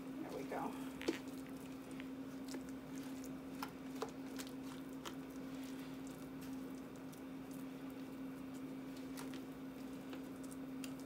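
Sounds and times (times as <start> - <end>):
steady hum: 0.0 - 11.0
mashed potatoes squishing: 0.2 - 11.0.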